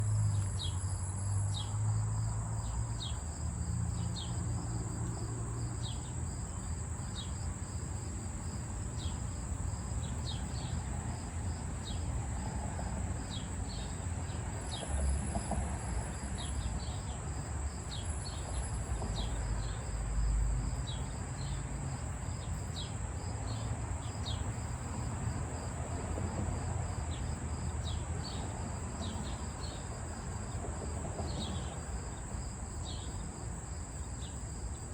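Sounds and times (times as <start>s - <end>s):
cricket chirps: 0.0s - 34.9s
crickets buzzing: 0.0s - 34.9s.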